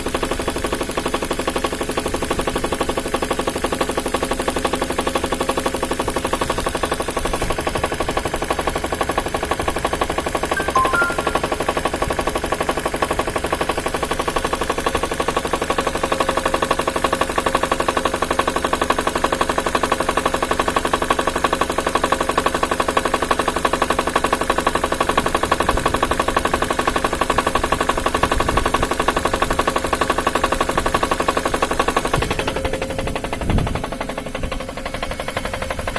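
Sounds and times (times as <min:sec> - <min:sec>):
engine knocking: 0:00.0 - 0:10.6, 0:12.2 - 0:35.9.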